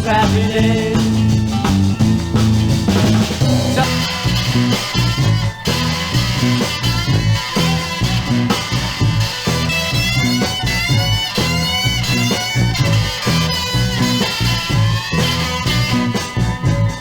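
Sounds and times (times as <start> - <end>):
rock song: 0.0 - 17.0
sliding lead guitar: 0.0 - 17.0.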